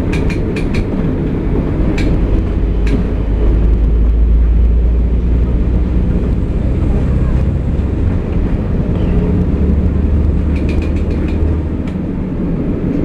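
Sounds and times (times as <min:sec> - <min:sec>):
deep drone: 0:00.0 - 0:13.0
railbus diesel rumble: 0:00.0 - 0:13.0.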